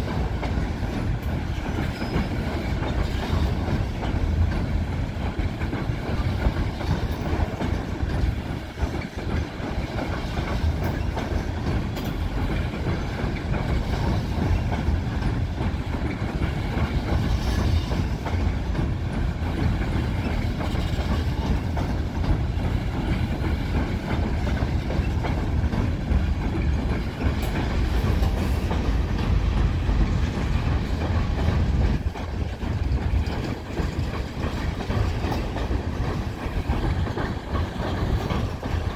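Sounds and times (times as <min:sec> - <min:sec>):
train wheels rumbling on bridge: 0:00.0 - 0:38.9.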